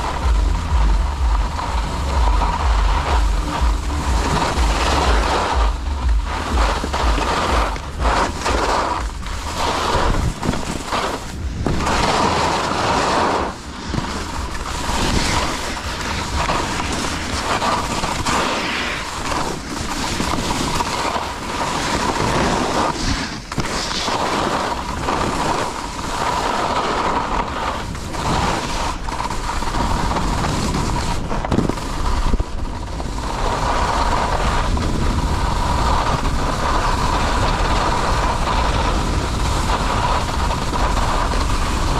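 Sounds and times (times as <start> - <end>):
wind buffeting microphone: 0.0 - 23.6, 26.6 - 41.9
skis scraping over snow: 0.0 - 41.9.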